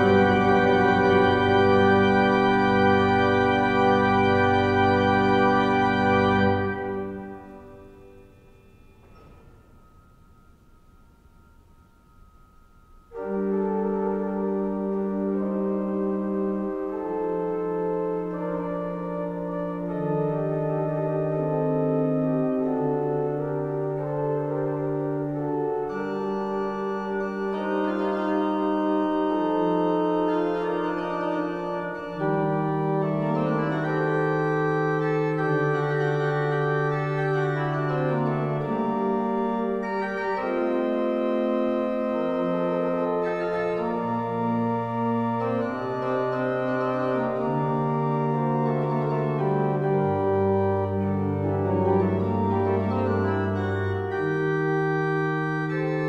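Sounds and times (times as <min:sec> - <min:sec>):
pipe organ playing: 0:00.0 - 0:11.7, 0:12.3 - 0:56.0.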